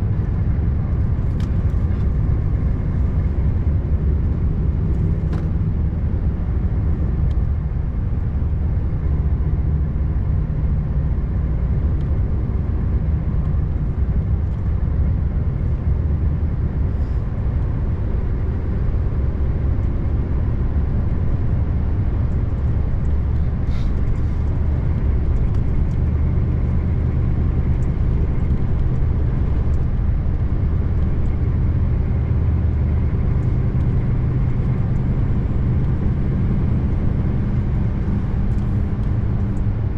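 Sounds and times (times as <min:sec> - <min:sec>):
truck engine droning: 0:00.0 - 0:39.9
tyre and road noise: 0:00.0 - 0:39.9.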